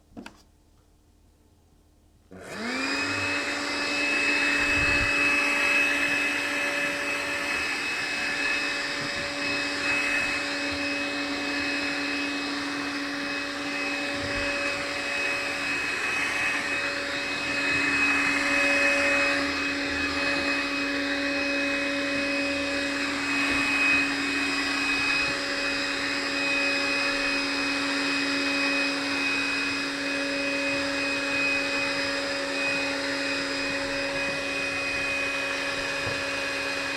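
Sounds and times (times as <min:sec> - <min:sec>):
vacuum cleaner motor whining: 0:02.3 - 0:36.9.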